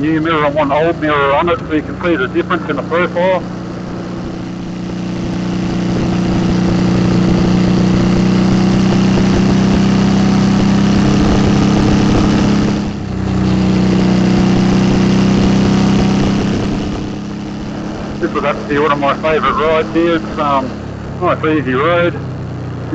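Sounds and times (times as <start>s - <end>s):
motorcycle engine under way: 0.0s - 22.9s.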